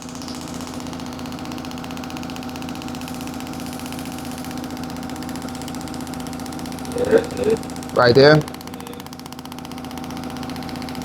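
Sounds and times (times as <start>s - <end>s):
shockwave therapy device pulsing: 0.0s - 11.0s.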